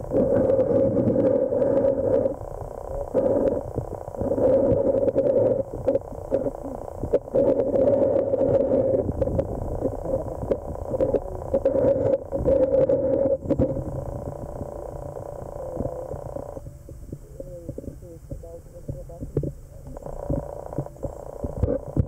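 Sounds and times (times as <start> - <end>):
droning hum: 0.0 - 22.0
underwater low rumble: 0.0 - 22.0.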